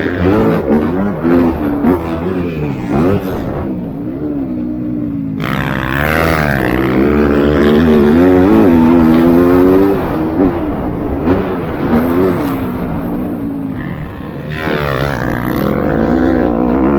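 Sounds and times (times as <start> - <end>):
motocross bike engines revving: 0.0 - 16.9
motorbike passing close: 0.0 - 16.9.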